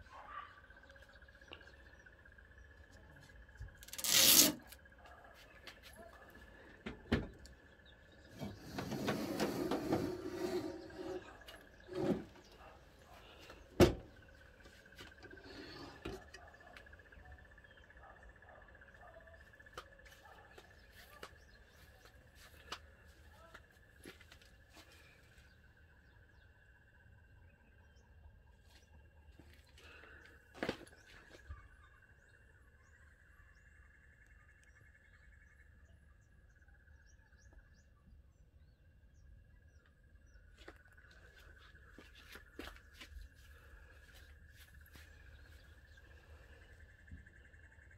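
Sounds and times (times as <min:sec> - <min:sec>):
small birds chirping: 0:04.8 - 0:47.9.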